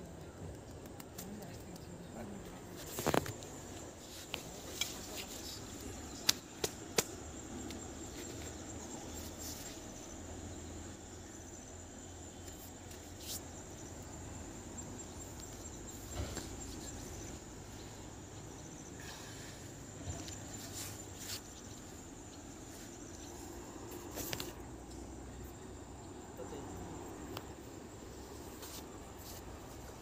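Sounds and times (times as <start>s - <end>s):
high-pitched insect trill: 1.0s - 30.0s.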